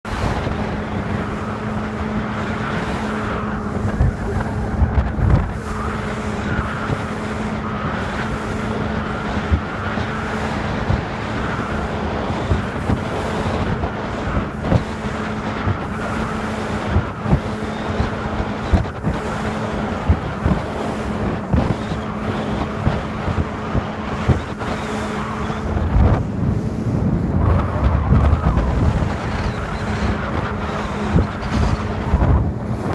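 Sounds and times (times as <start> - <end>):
outboard motor droning: 0.0 - 32.9
wind noise on microphone: 0.0 - 32.9.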